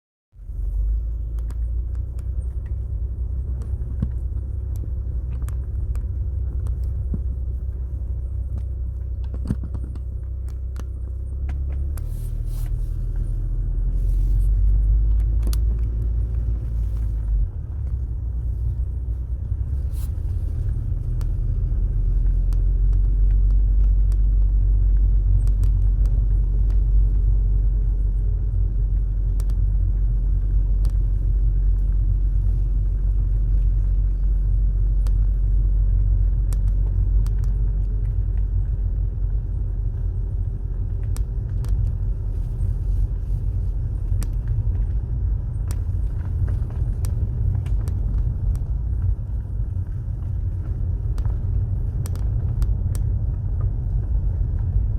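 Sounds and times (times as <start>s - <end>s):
car road and engine rumble: 0.3s - 54.9s.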